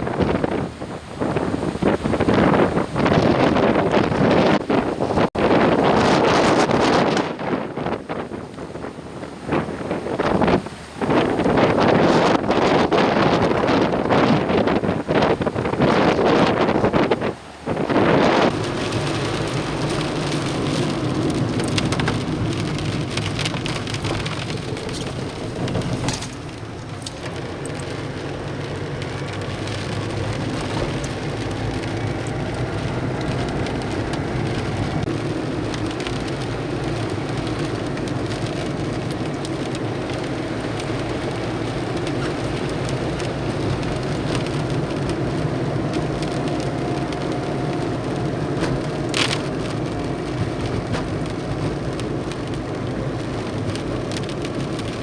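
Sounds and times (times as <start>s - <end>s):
rain and storm noise: 0.0s - 55.0s.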